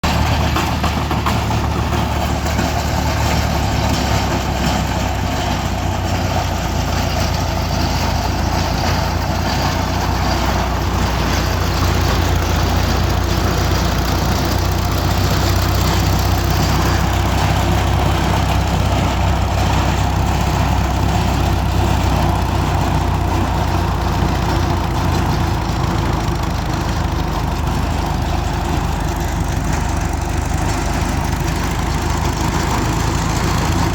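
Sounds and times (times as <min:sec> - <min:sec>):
drilling rig engine humming: 0:00.0 - 0:33.9.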